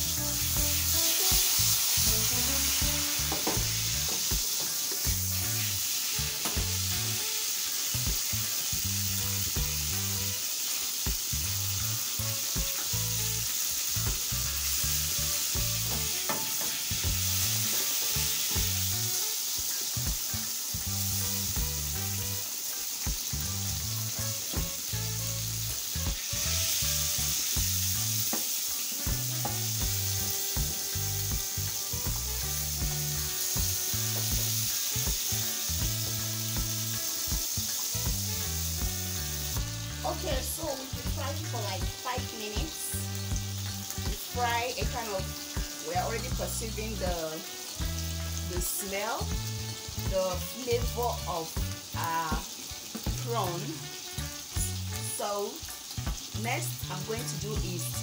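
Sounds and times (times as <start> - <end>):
shrimp sizzling in oil: 0.0 - 58.0.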